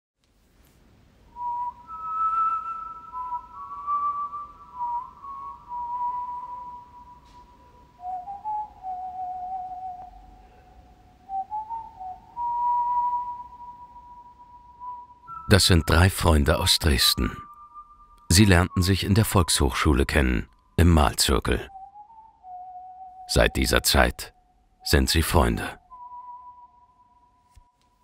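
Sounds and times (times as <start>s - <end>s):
slow whistled melody: 1.3s - 28.0s.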